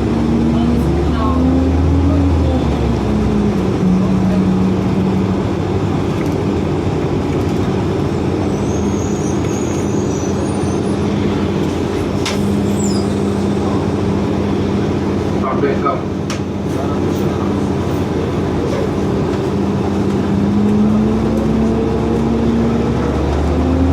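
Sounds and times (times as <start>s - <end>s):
bus drivetrain hum: 0.0s - 23.9s
road noise: 0.0s - 23.9s.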